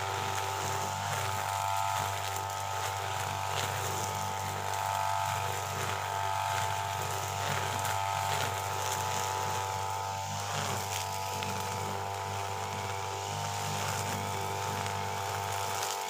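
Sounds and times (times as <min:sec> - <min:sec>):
brush cutter engine whining: 0:00.0 - 0:16.0
nylon line cutting grass: 0:00.0 - 0:16.0.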